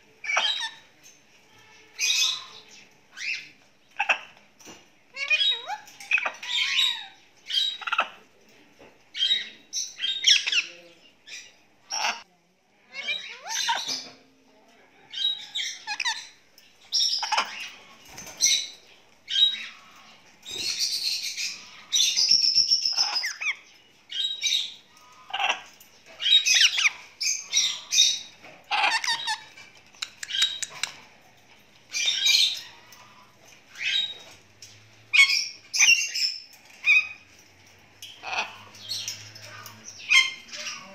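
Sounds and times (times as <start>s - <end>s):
parrots squawking and chirping: 0.1s - 8.4s, 9.1s - 12.3s, 12.9s - 14.2s, 15.1s - 40.9s.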